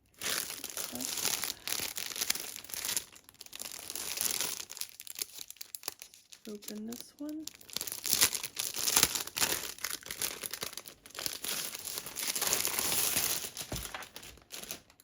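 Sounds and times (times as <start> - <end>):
packaging crinkling and rustling: 0.0 - 15.0
packaging tearing: 0.0 - 15.0.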